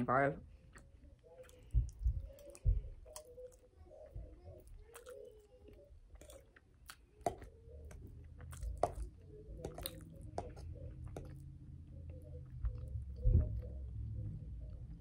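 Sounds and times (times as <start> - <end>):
wet chewing: 0.5 - 14.0.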